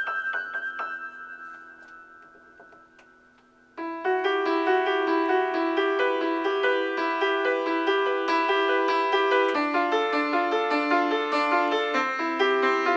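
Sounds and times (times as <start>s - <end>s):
keyboard music: 0.0s - 12.9s.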